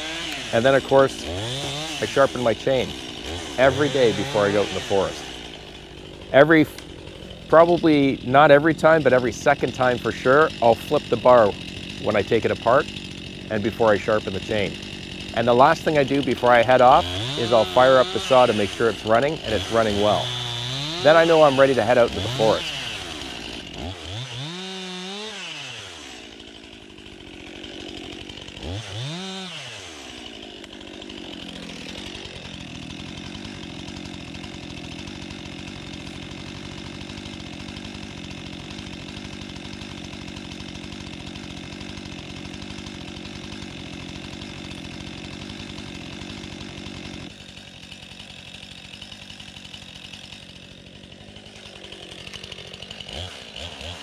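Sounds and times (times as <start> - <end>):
chainsaw revving and idling: 0.0 - 54.0.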